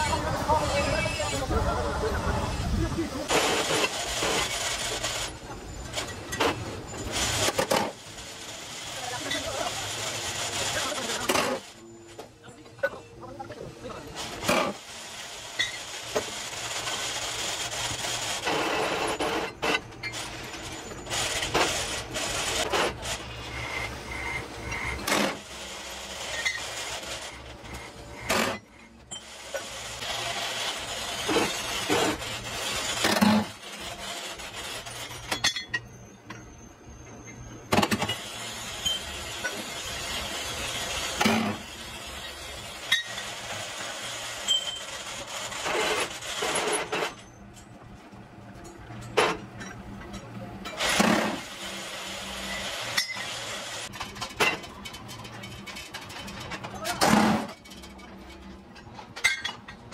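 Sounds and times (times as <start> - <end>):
workshop background noise: 0.0 - 59.9.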